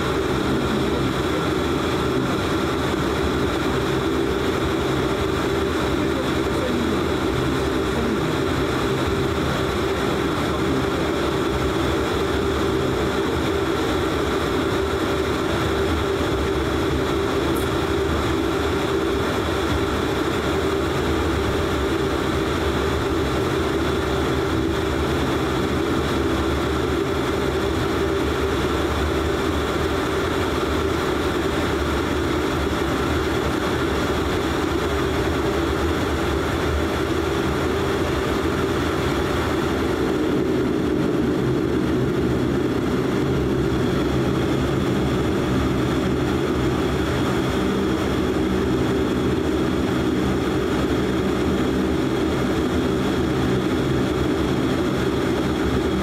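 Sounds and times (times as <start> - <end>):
turboprop engines droning in cabin: 0.0 - 56.0.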